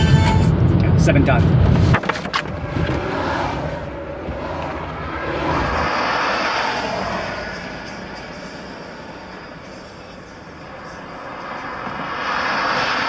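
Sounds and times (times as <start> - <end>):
tyre and road noise: 0.0 - 13.0.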